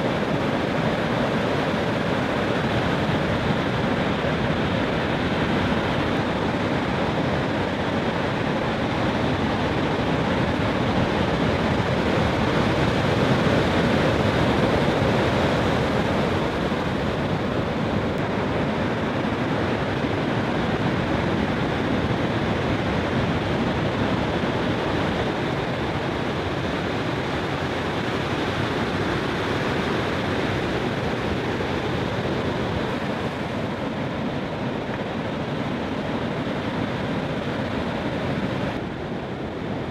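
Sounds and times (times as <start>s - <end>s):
heavy surf crashing waves: 0.0s - 39.9s.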